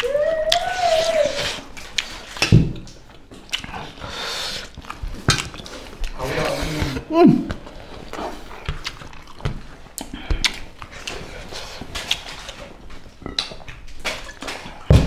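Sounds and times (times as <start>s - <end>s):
chewing and lip smacks: 1.4s - 6.2s, 7.5s - 14.9s.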